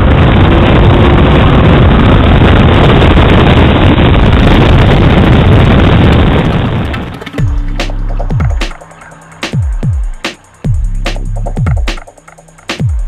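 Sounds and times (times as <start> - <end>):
car engine running hard: 0.0 - 13.0
wind noise on microphone: 0.0 - 13.0.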